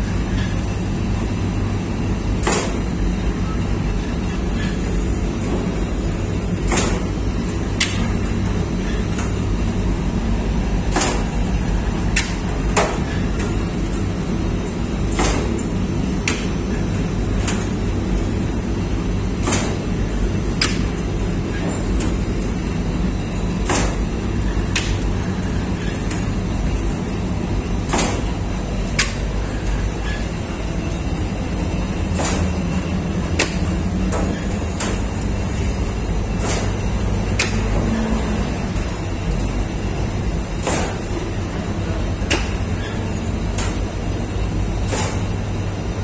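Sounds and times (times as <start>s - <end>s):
dough machine humming: 0.0s - 46.0s.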